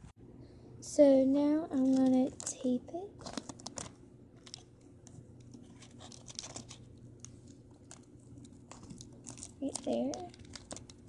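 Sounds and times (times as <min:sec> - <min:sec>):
adhesive tape crinkling: 0:01.8 - 0:11.0.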